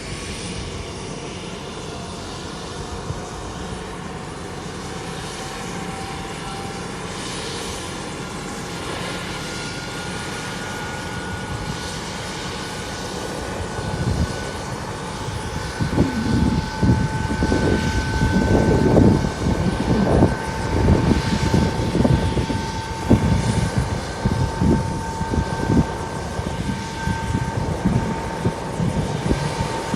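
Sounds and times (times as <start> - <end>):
helicopter rotor rumble: 0.0 - 29.9
helicopter turbine whining: 0.0 - 29.9.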